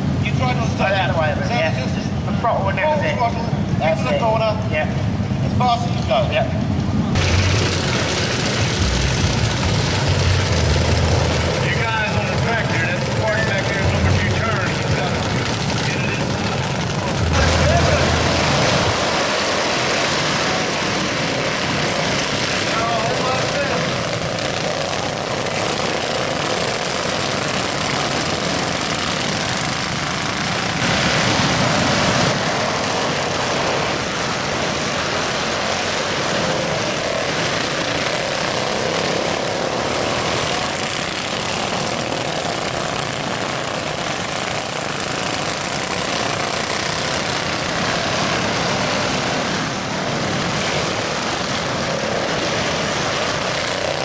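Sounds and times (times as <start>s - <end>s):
lawn mower engines revving: 0.0s - 54.0s.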